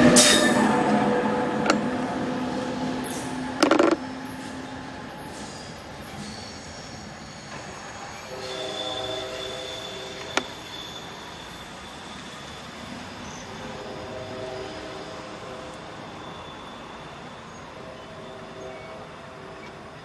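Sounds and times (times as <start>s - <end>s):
train wheels squealing on rails: 0.0s - 20.0s.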